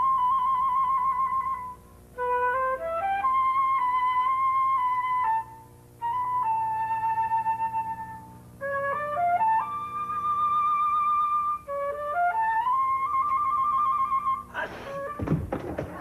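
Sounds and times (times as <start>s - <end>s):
solo flute melody: 0.0s - 15.3s.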